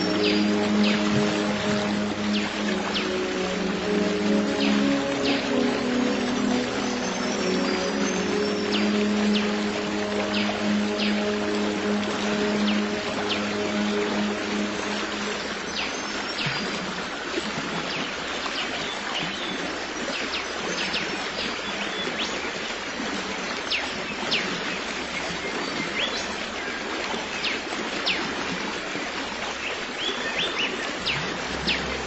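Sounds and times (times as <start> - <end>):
stream rushing: 0.0 - 32.0.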